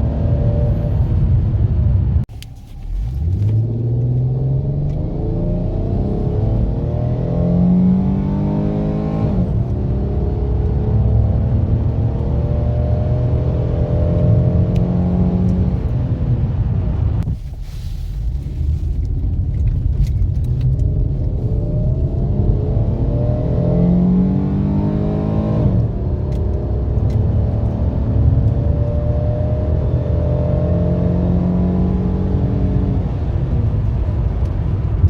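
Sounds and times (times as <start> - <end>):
car engine accelerating hard: 2.7 - 17.4, 18.3 - 35.0.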